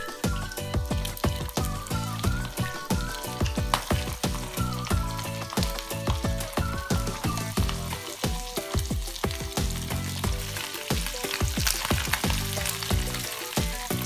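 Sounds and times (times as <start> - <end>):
fish fillets sizzling in oil: 0.0 - 14.0
music playing: 0.0 - 14.0.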